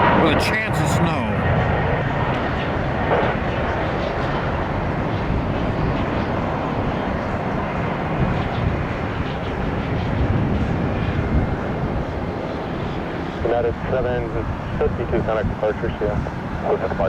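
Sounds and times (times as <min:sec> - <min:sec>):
jet engines roaring at takeoff: 0:00.0 - 0:17.0
wind rumble on microphone: 0:00.0 - 0:17.0.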